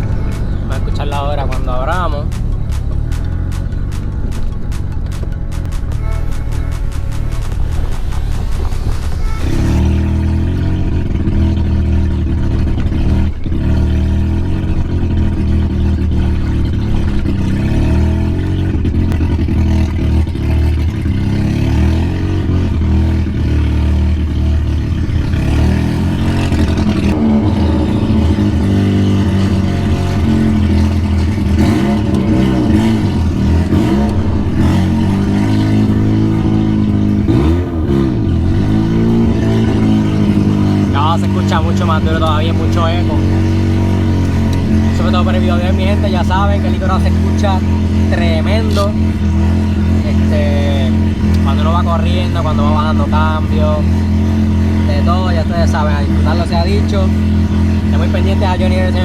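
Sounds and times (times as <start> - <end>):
rotary engine revving loudly: 0.0 - 59.0.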